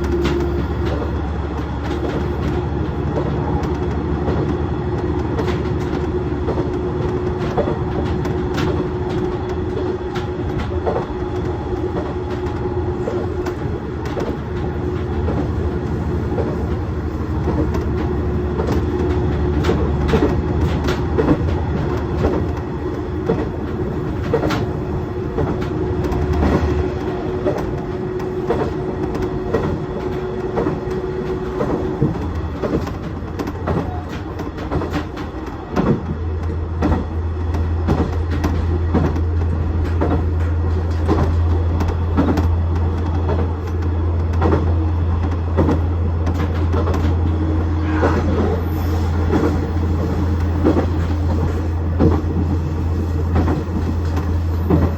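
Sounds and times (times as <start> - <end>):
diesel engine drone: 0.0 - 54.9
wheels clicking over track: 0.0 - 54.9.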